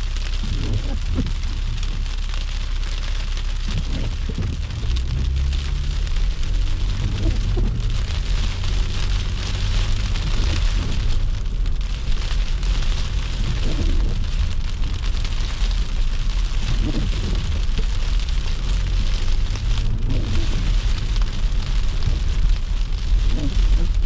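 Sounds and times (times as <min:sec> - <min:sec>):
low engine and road rumble: 0:00.0 - 0:24.0.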